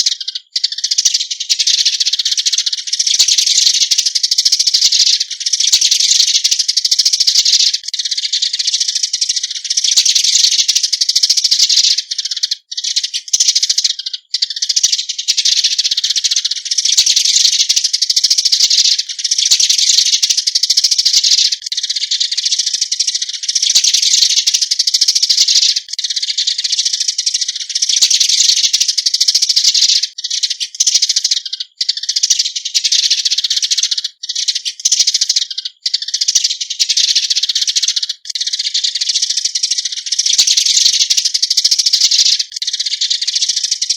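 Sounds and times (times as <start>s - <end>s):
sparrows chirping: 0.0s - 43.9s.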